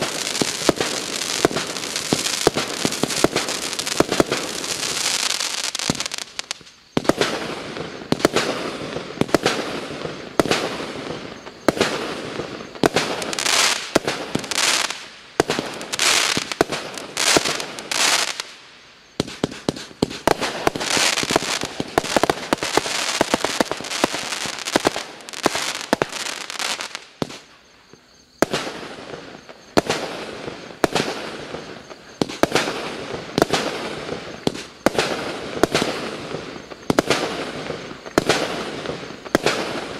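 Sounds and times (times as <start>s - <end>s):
fireworks launching and bursting: 0.0s - 39.9s.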